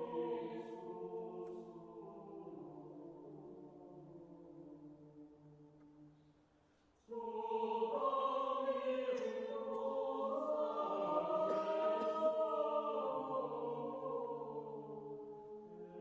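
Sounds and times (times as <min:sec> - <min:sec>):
slow choir-like music: 0:00.0 - 0:16.0.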